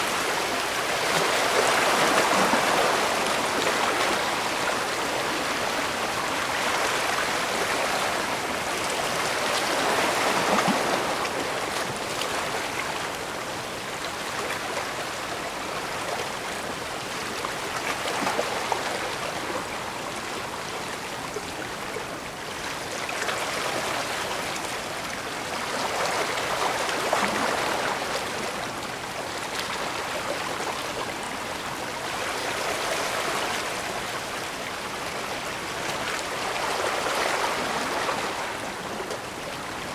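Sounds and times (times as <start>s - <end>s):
small waves washing ashore: 0.0s - 39.9s.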